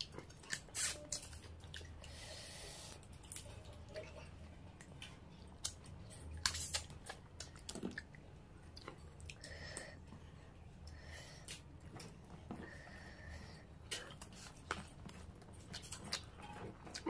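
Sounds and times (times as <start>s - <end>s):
chewing and crunching: 0.0s - 10.0s, 10.9s - 17.0s.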